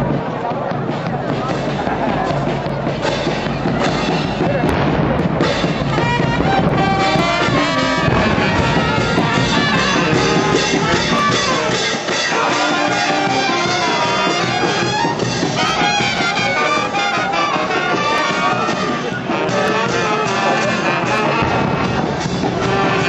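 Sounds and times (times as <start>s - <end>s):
brass band playing: 1.3s - 23.0s.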